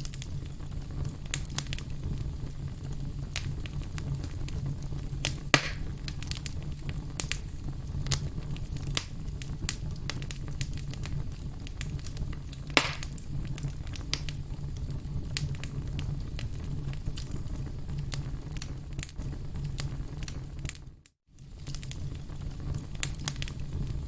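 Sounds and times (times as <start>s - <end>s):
firewood crackling and popping: 0.0s - 24.0s.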